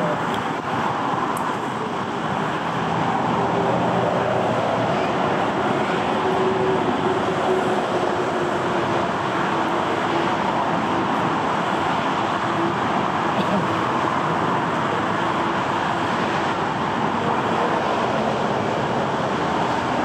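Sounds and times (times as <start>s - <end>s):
jet engines taxiing: 0.0s - 20.0s.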